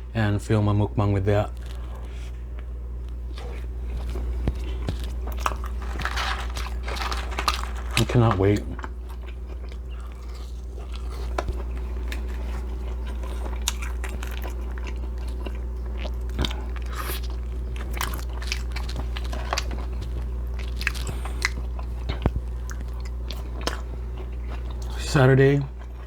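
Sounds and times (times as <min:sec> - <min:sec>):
low steady hum: 0:00.0 - 0:26.0
person biting and chewing food: 0:01.5 - 0:25.0.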